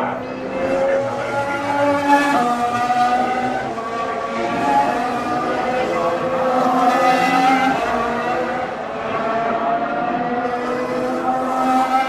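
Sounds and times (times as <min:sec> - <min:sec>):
racing car engines at speed: 0:00.0 - 0:12.0.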